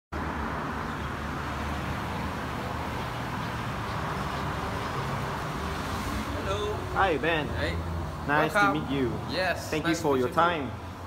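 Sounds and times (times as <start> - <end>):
road traffic hum: 0.1 - 11.0.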